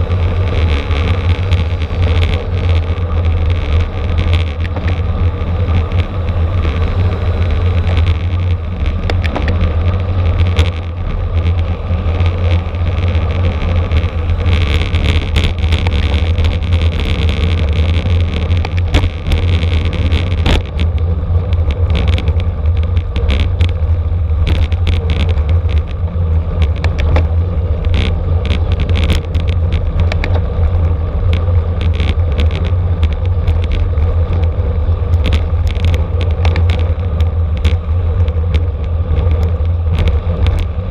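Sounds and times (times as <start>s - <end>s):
bike clicks and rattles: 0.0s - 40.9s
wind rumbling over microphone: 0.0s - 40.9s.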